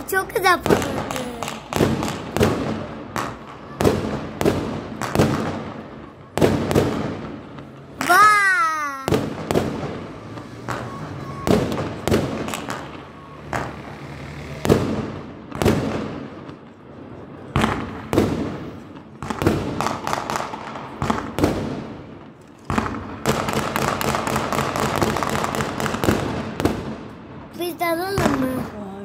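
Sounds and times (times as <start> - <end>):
fireworks bangs: 0.0 - 29.0
fireworks crackling: 0.0 - 29.0.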